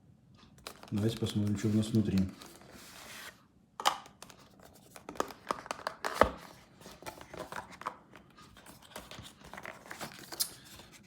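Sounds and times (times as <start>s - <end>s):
cardboard and paper rustling: 0.6s - 3.4s, 4.1s - 11.0s.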